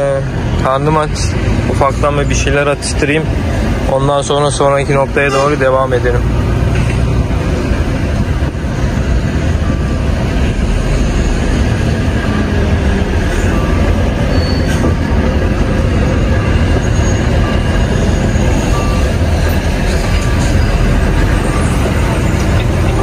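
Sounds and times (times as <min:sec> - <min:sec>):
road noise: 0:00.0 - 0:23.0
truck engine rumble: 0:00.0 - 0:23.0.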